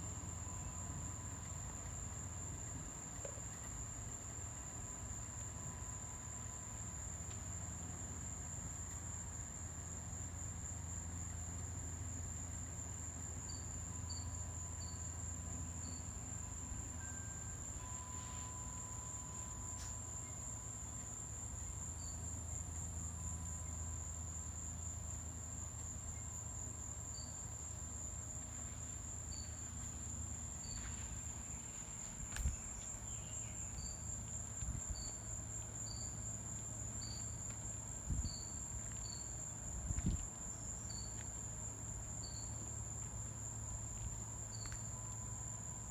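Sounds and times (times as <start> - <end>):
insects trilling: 0.0 - 45.9
low background hum: 0.0 - 45.9.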